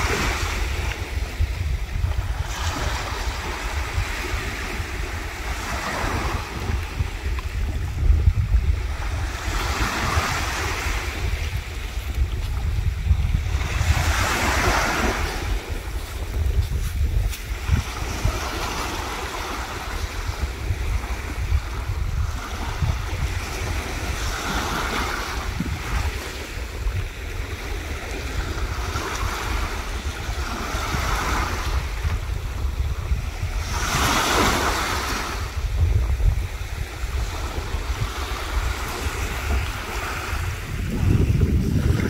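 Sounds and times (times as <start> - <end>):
sea waves breaking: 0.0 - 42.0
wind rumble on microphone: 0.0 - 42.0.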